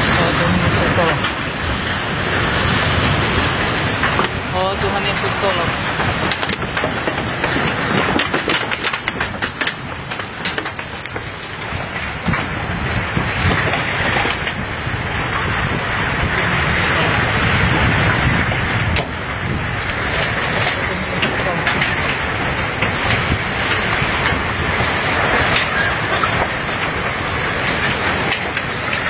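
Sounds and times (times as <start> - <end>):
earthquake ground rumble: 0.0 - 29.0.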